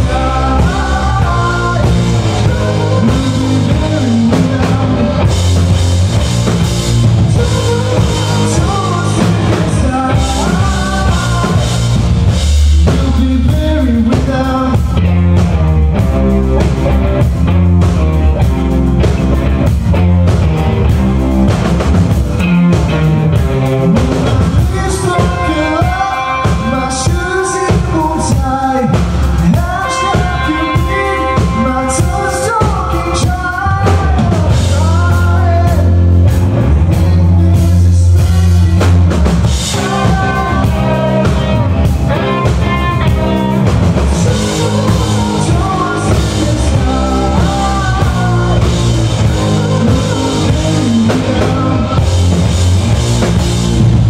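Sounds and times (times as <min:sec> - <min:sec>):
singer's vocal: 0:00.0 - 0:17.2, 0:22.3 - 0:54.0
drum kit: 0:00.0 - 0:54.0
electric guitars: 0:00.0 - 0:54.0.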